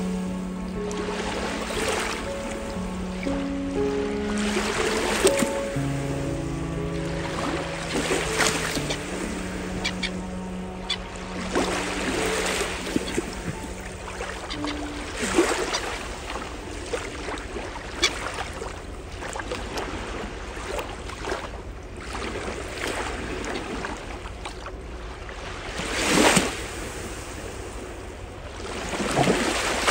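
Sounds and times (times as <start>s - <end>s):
small waves lapping at shore: 0.0s - 29.9s.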